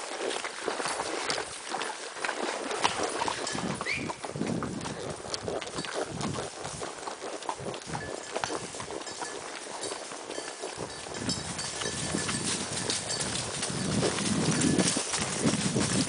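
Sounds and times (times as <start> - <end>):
horse hooves walking on trail: 0.0 - 16.0.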